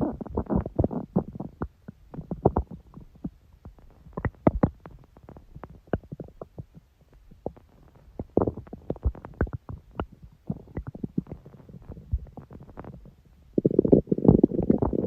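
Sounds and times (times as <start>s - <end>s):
stomach gurgling and rumbling: 0.0s - 15.0s.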